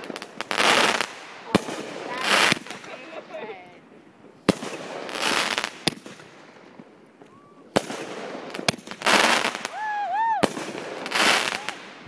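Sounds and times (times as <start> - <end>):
fireworks shots: 0.0 - 3.4, 4.2 - 12.0
loud crackling firework bursts: 0.0 - 12.0.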